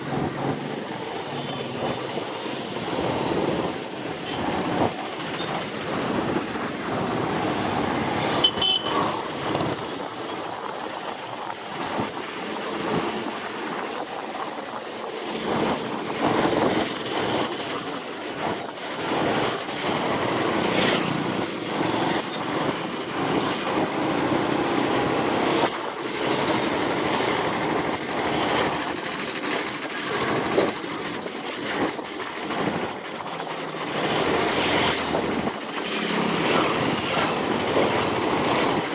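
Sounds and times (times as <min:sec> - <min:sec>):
motorcycle engine: 0:00.0 - 0:13.6, 0:15.1 - 0:38.9
wind and road noise: 0:00.0 - 0:38.9.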